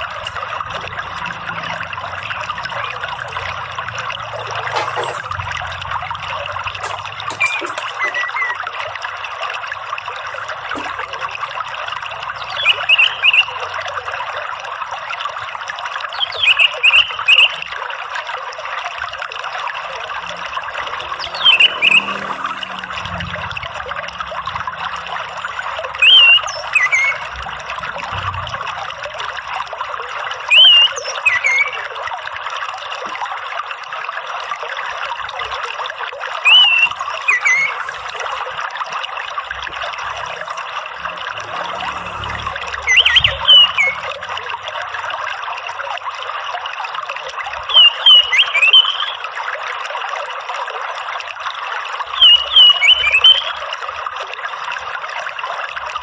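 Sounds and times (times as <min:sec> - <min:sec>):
trickle of running water: 0:00.0 - 0:56.0.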